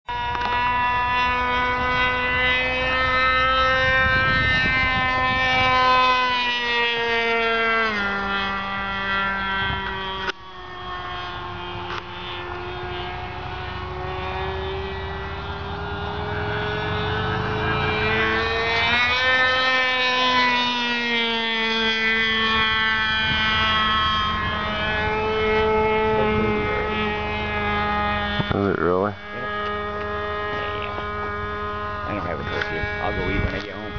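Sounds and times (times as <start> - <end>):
model airplane engine whine: 0.1 - 33.9.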